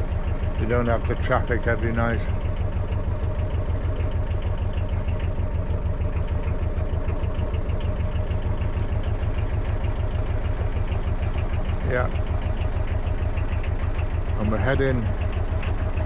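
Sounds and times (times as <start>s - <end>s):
boat engine running steadily: 0.0s - 16.0s.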